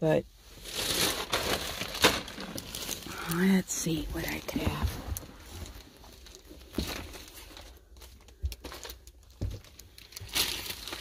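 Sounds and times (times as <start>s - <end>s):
rustling: 0.4s - 11.0s.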